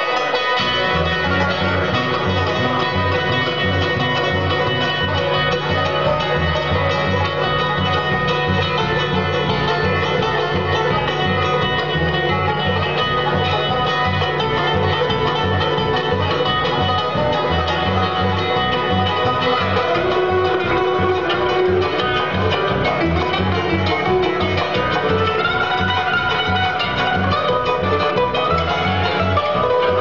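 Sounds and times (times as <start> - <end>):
banjo: 0.0 - 30.0
bluegrass band playing: 0.0 - 30.0
steady bass beat: 0.6 - 30.0.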